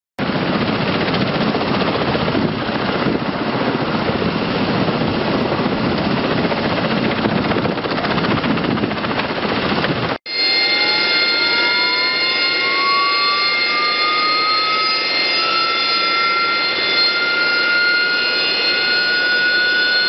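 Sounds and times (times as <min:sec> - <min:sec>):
flight deck roar: 0:00.2 - 0:20.0
jet engine high whine: 0:00.2 - 0:20.0.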